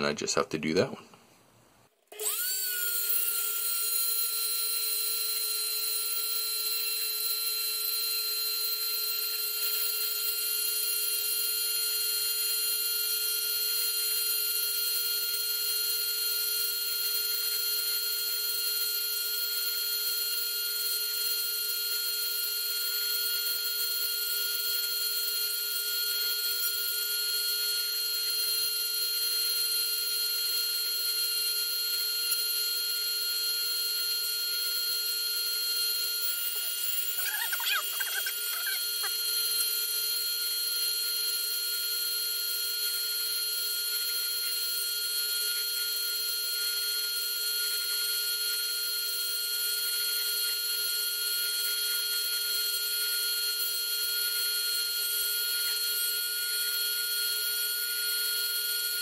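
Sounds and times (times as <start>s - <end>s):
rotary tool whining: 2.0s - 59.0s.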